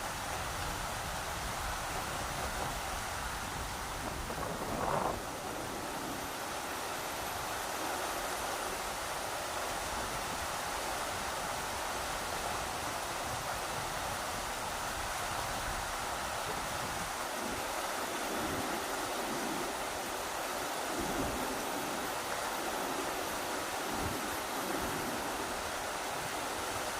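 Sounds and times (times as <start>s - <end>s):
river water rushing: 0.0s - 26.9s
wind gusting: 0.1s - 11.6s, 12.6s - 26.9s.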